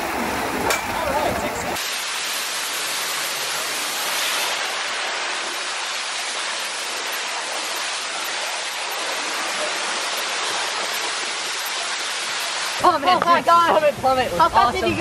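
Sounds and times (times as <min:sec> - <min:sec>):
water rushing down slide: 0:00.0 - 0:15.0.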